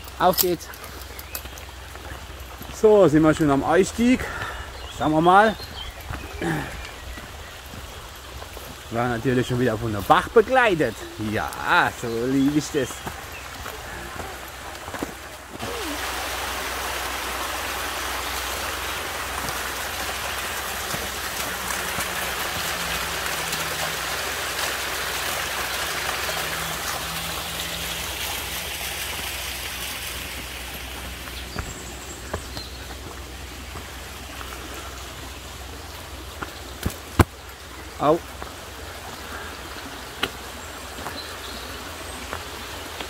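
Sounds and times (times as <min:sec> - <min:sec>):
brook flowing: 0:00.0 - 0:43.0.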